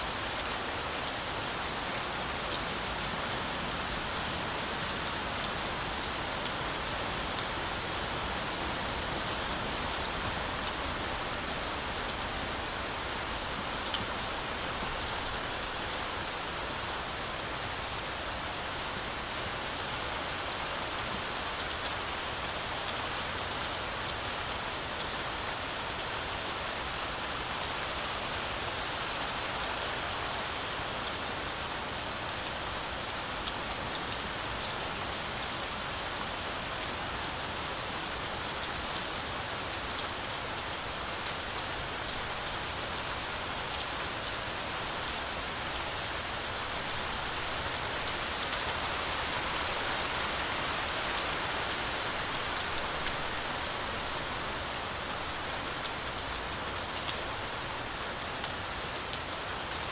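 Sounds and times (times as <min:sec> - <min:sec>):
heavy rain through forest canopy: 0:00.0 - 0:59.9.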